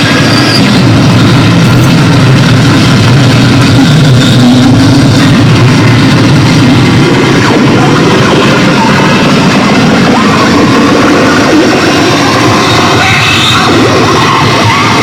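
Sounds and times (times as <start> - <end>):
distorted electronic noise: 0.0 - 15.0.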